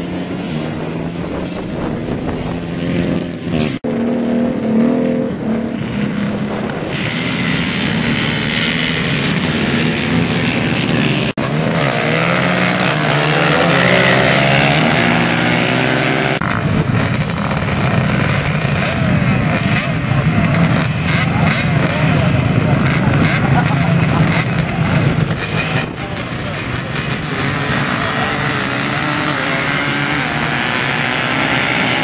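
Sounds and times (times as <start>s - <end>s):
atv engines revving: 0.0s - 32.0s.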